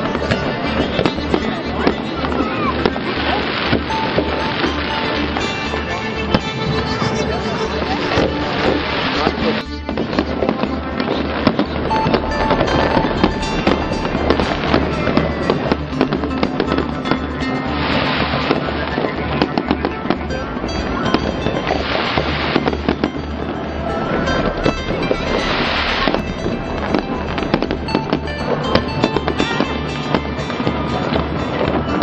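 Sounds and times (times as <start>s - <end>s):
fireworks crackling: 0.0s - 32.0s
music: 0.0s - 32.0s.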